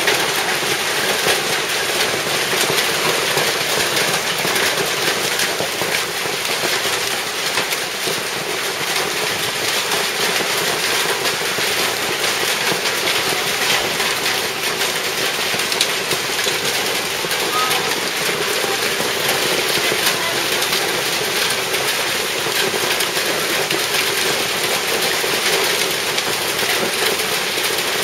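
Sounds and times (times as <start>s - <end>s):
hail and rain pelting paving: 0.0s - 28.0s.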